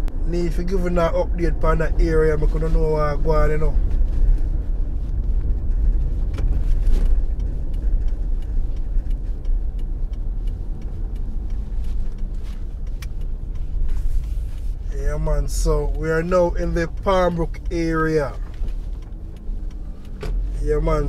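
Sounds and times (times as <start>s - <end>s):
car engine and road noise: 0.0s - 21.0s
faint clicks and knocks: 3.7s - 21.0s.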